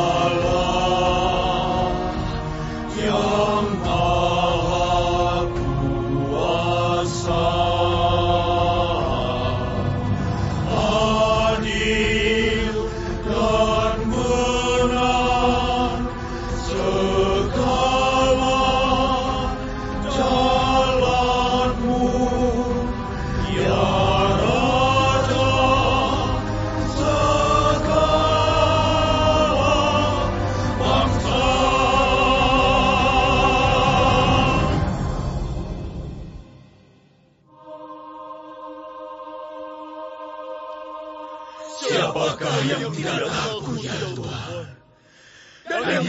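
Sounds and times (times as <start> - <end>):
slow chanted singing: 0.0 - 35.7, 37.4 - 46.0.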